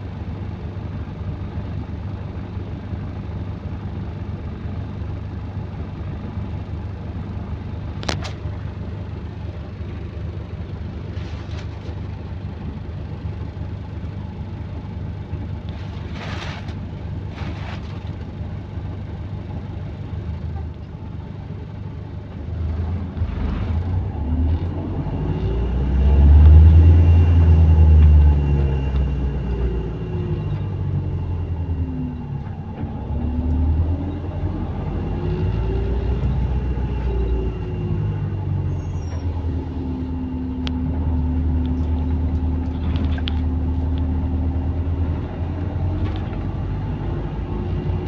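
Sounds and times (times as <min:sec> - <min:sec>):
bus engine rumbling: 0:00.0 - 0:48.0.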